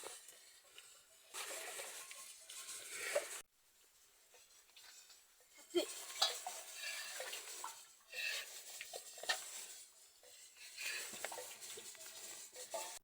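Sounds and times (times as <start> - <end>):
utensil scraping metal pot: 0.0 - 3.4, 4.3 - 13.0.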